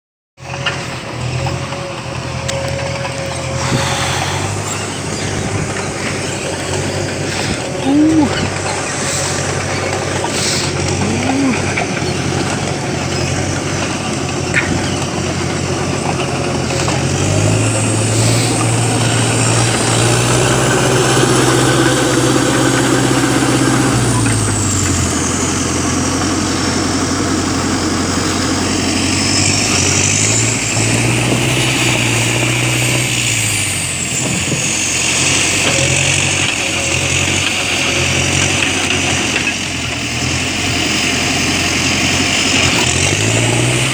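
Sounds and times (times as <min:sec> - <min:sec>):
diesel engine revving: 0:00.4 - 0:43.9.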